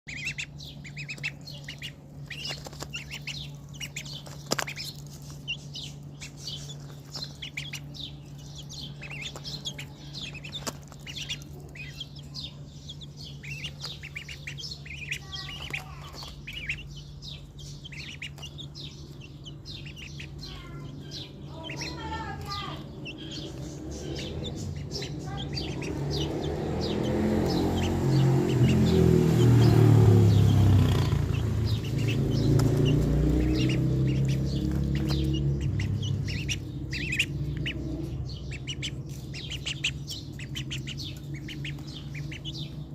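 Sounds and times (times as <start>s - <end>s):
ducklings and chicks peeping: 0.0s - 42.9s.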